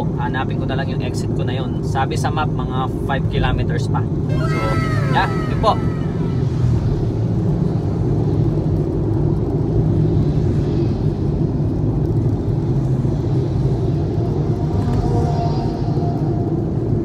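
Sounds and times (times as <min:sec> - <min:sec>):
car cabin road and engine rumble: 0:00.0 - 0:15.3.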